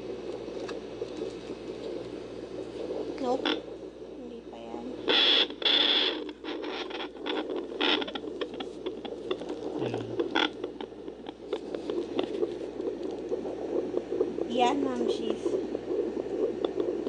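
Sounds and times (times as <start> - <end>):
doppler monitor whooshing hum: 0.0 - 17.0
scratchy crackles: 0.0 - 17.0.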